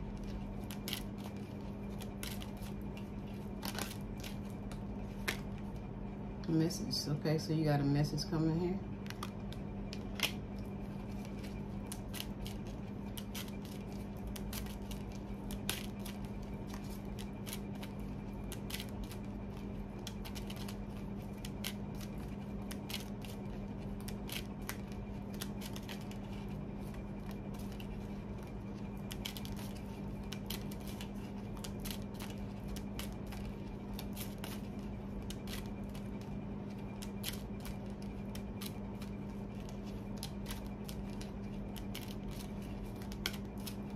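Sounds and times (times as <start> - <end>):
cards being shuffled: 0.0 - 5.9, 9.0 - 43.9
steady low hum: 0.0 - 43.9.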